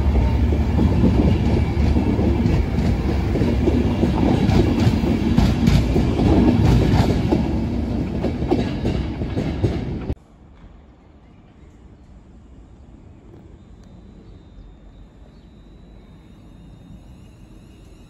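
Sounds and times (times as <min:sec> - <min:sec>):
train passing with clacking wheels: 0:00.0 - 0:18.0.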